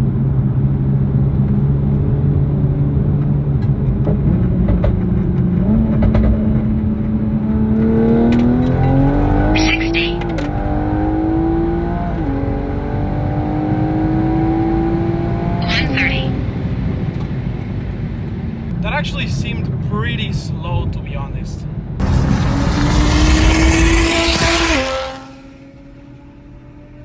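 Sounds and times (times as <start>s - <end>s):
car engine accelerating: 0.4s - 18.7s, 22.0s - 27.0s.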